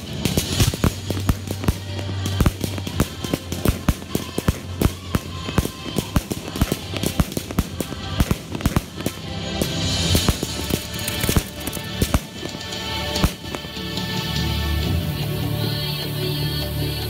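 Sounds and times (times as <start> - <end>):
fireworks bangs: 0.0 - 14.5
music playing: 0.0 - 17.0.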